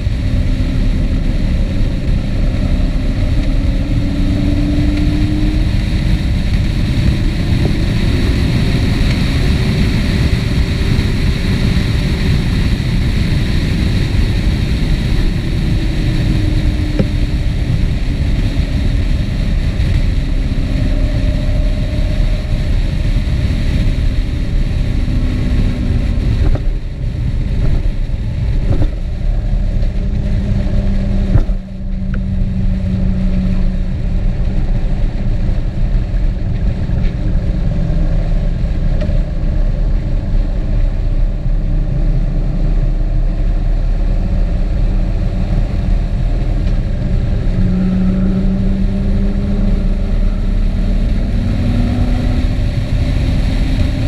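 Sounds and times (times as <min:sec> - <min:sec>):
road and wind noise: 0:00.0 - 0:54.0
vehicle engine: 0:00.0 - 0:54.0.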